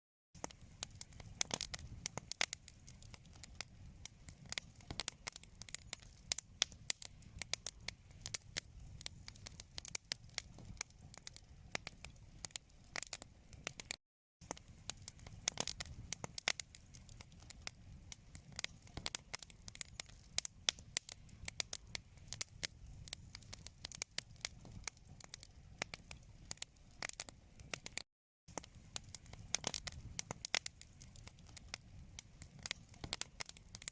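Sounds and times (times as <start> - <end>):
low rumble of burning: 0.4 - 33.9
wood fire crackling: 0.4 - 33.9.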